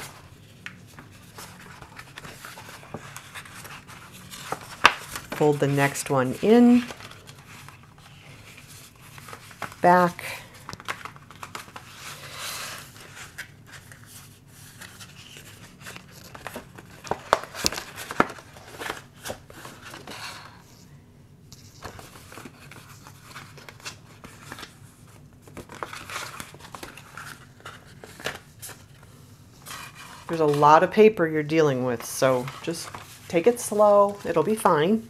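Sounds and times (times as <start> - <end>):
paper rustling and crinkling: 0.0 - 20.8, 21.6 - 31.0, 32.0 - 35.0.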